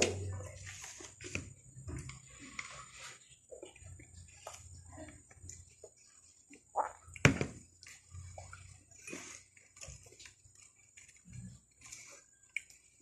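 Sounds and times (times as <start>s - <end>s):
soft chewing: 0.2s - 13.0s.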